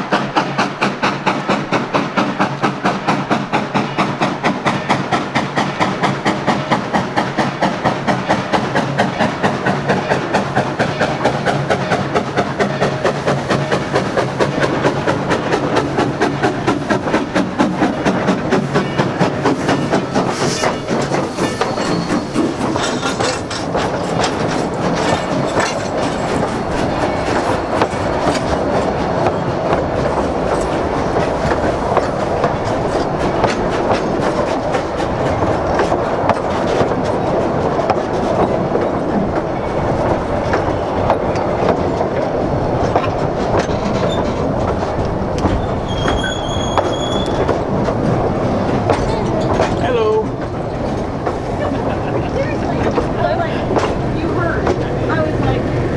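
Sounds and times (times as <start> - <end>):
steam locomotive exhaust beats: 0.0 - 55.9
train rumbling and clattering by: 0.0 - 55.9.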